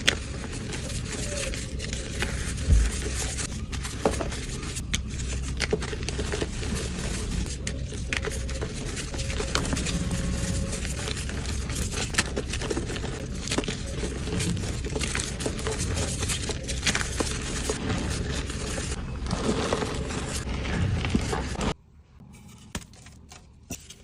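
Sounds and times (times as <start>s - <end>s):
chalk crushing and crackling: 0.0s - 24.0s.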